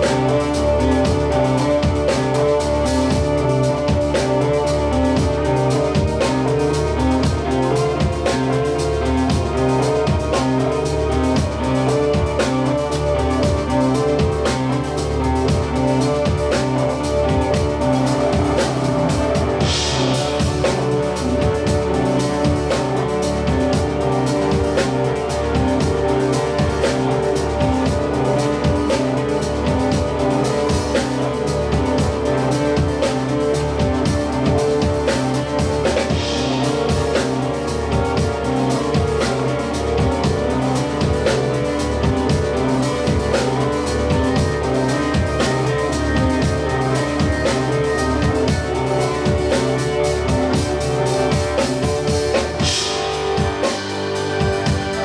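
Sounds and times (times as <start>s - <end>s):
live band playing instrumental: 0.0s - 55.0s
steady drum beat: 0.0s - 55.0s.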